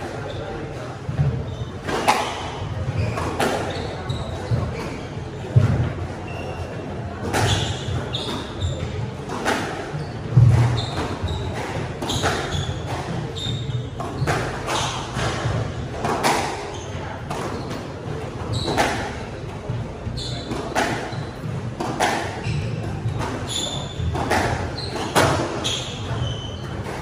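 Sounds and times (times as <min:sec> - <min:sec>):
sneakers squeaking: 0:00.0 - 0:27.0
squash ball hitting rackets and walls: 0:00.0 - 0:27.0.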